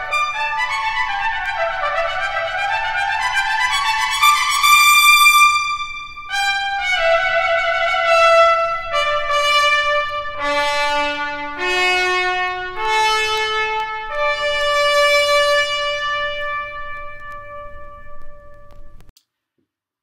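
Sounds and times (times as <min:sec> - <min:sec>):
solo trumpet playing: 0:00.0 - 0:19.0.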